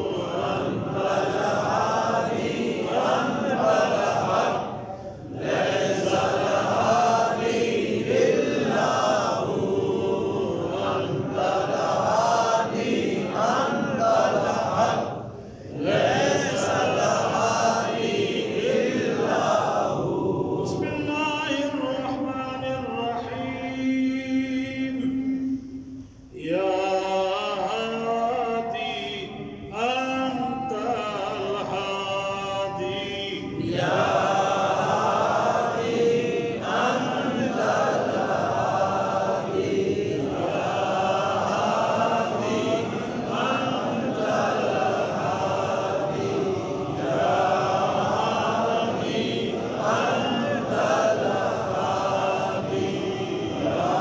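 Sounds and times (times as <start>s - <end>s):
group of men chanting: 0.0s - 20.8s, 30.7s - 54.0s.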